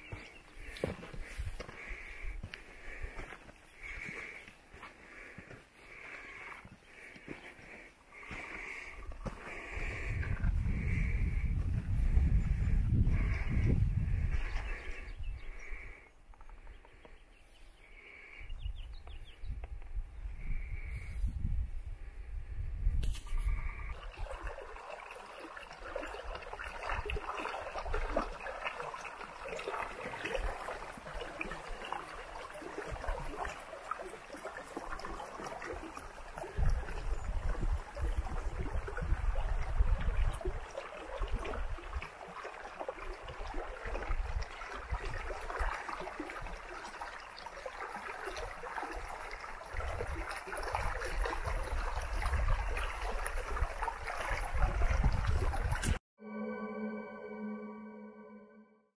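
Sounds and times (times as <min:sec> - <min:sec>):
creek running over stones: 0:00.0 - 0:15.0, 0:23.2 - 0:56.0.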